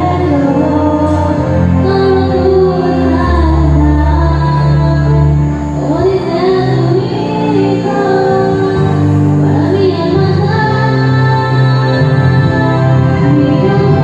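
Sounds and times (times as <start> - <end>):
instrumental backing music: 0.0 - 14.0
woman singing into a microphone: 0.0 - 14.0.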